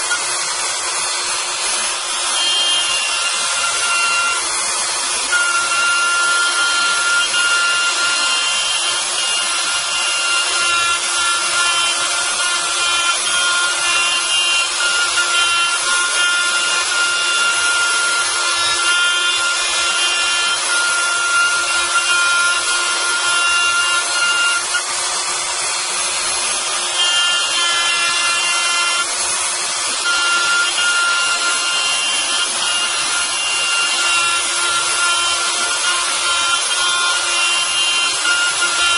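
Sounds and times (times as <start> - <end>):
end mill rasping cut: 0.0 - 38.9
milling motor whine: 0.0 - 38.9.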